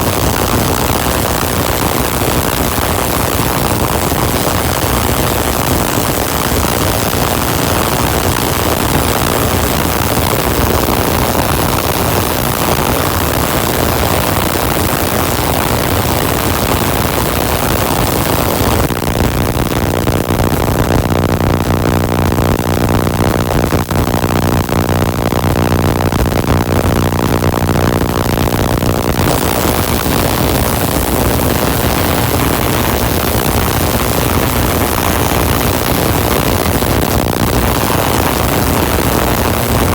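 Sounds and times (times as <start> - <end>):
steady low pitched buzz: 0.0 - 39.9
tesla coil harsh rushing buzz: 0.0 - 39.9.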